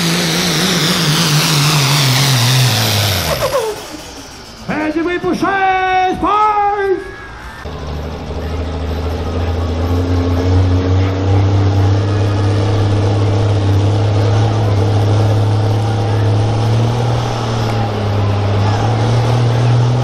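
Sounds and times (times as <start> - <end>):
diesel engine droning under load: 0.0 - 20.0.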